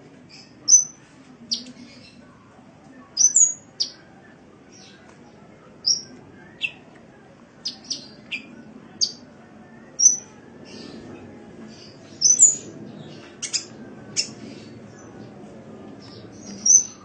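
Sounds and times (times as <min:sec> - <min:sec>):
bird chirping and tweeting: 0:00.3 - 0:02.3, 0:03.1 - 0:04.0, 0:04.7 - 0:06.9, 0:07.6 - 0:09.3, 0:09.9 - 0:17.0.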